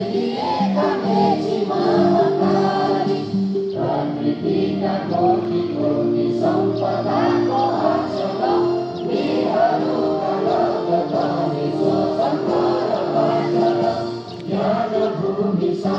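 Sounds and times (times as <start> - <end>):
group of voices singing: 0.0 - 15.9.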